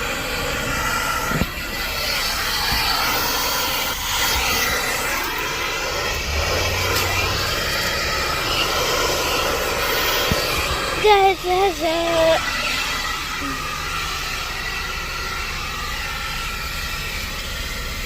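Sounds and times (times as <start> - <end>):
vacuum hose sucking: 0.0 - 18.0.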